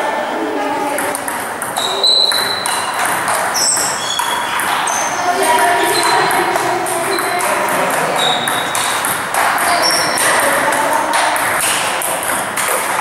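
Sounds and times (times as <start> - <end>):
table tennis balls clicking: 0.8 - 13.0.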